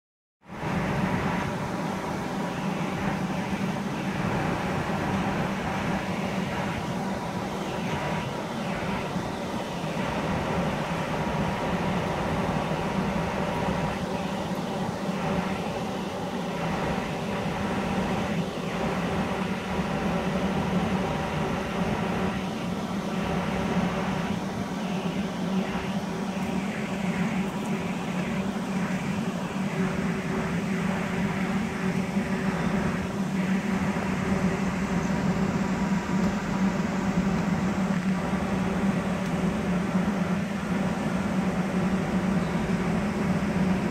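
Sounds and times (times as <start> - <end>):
machine humming: 0.5 - 43.9
steady high tones: 0.6 - 43.9.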